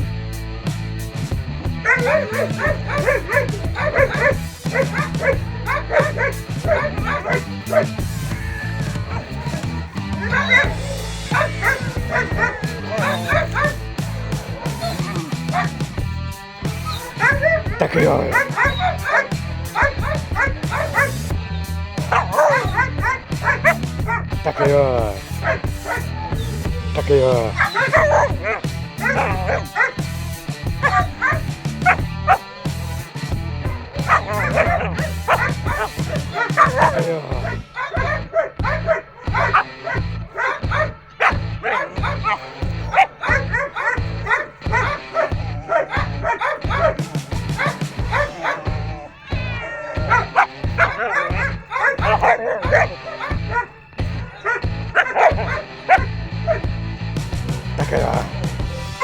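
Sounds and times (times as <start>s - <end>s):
background music: 0.0s - 59.0s
dog barking and yelping: 1.8s - 16.1s, 16.7s - 21.3s, 22.0s - 33.1s, 33.7s - 56.8s, 57.7s - 59.0s.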